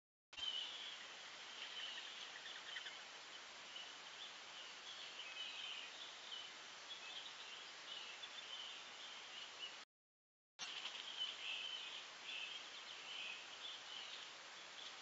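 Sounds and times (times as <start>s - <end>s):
bird chirps and calls: 0.4s - 9.8s, 10.6s - 15.0s.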